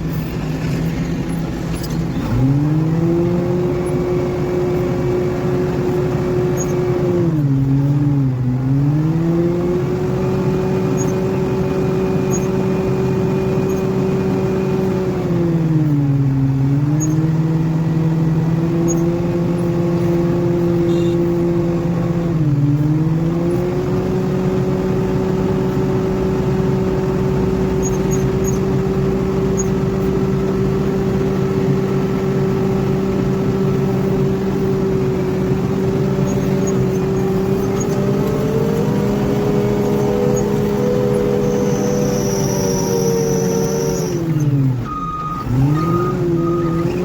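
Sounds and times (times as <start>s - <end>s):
diesel engine under load: 0.0s - 47.0s.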